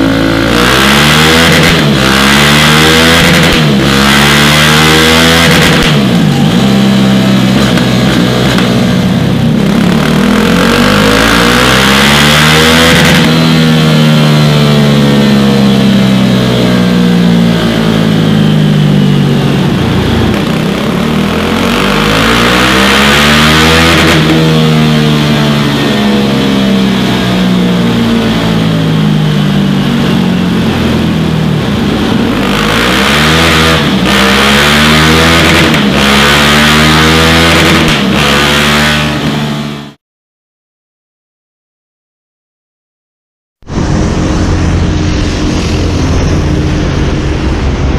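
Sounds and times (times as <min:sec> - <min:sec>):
motorcycle engine revving: 0:00.0 - 0:40.0, 0:43.6 - 0:47.9.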